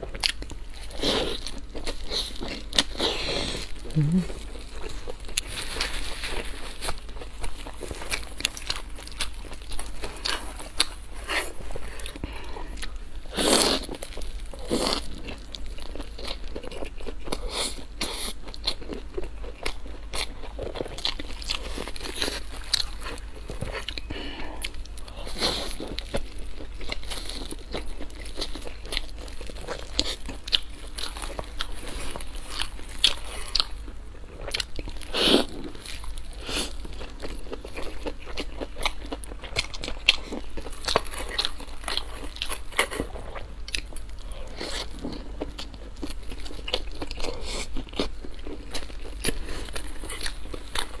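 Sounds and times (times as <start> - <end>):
crunchy chewing: 0.0 - 51.0.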